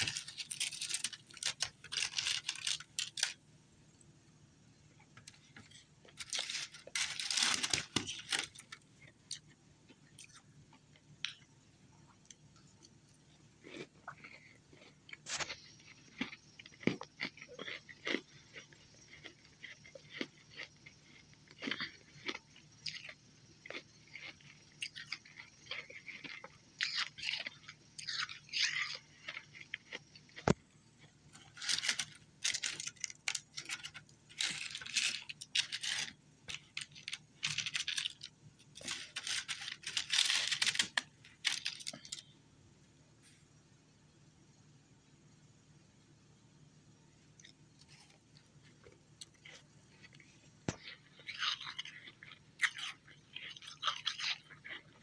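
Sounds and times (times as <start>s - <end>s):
ice being chewed: 0.0s - 3.4s, 5.2s - 11.4s, 13.6s - 42.3s, 47.4s - 55.0s.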